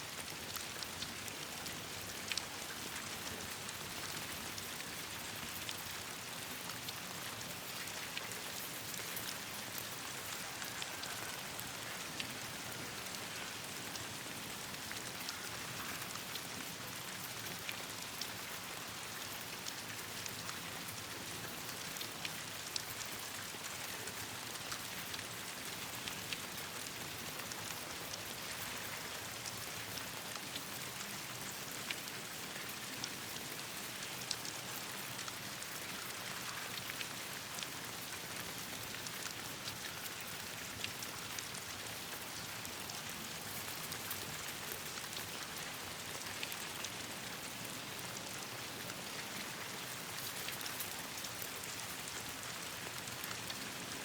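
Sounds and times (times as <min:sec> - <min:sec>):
rain on leaves: 0:00.0 - 0:54.0.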